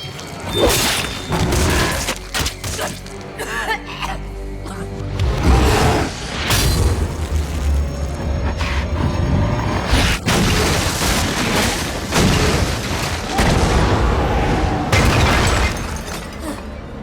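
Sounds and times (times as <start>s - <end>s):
film music: 0.0s - 17.0s.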